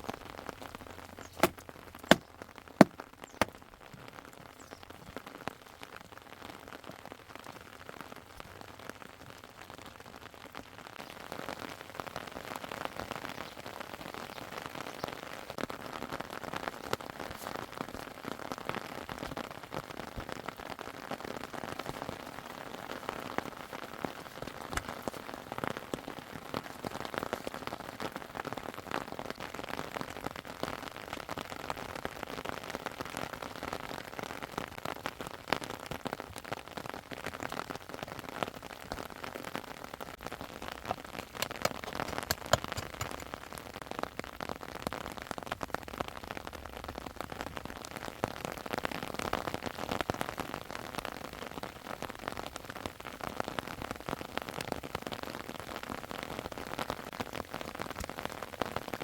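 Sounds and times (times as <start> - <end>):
raindrops ticking on surfaces: 0.0 - 59.0
steady rain falling: 0.0 - 59.0.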